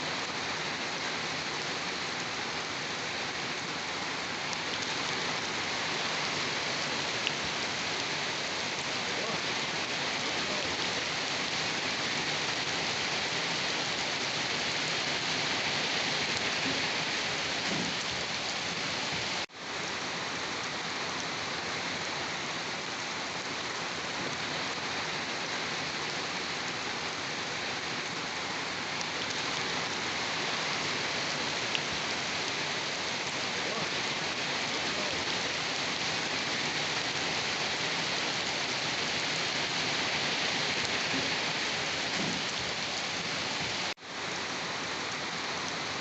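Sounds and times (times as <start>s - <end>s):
rain falling on a surface: 0.0s - 46.0s.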